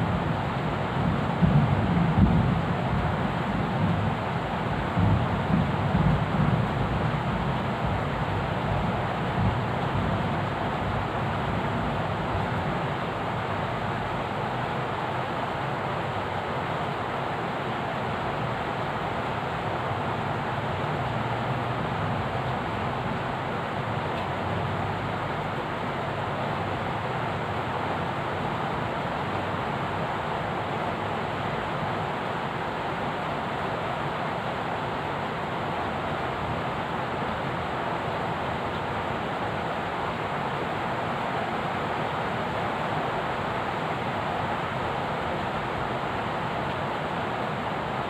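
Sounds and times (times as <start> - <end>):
heavy rain falling: 0.0 - 48.0
steady rushing noise: 0.0 - 48.0.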